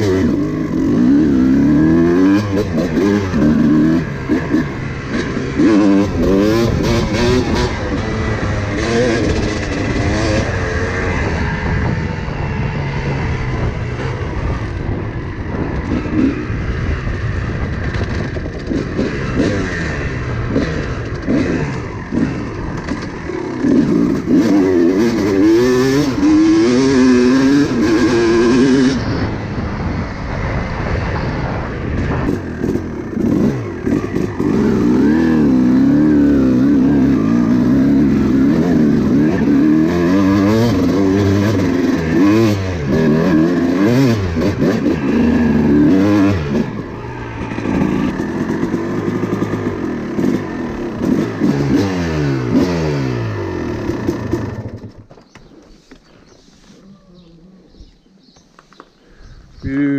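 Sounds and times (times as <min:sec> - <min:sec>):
dirt bike engine revving: 0:00.0 - 0:55.1.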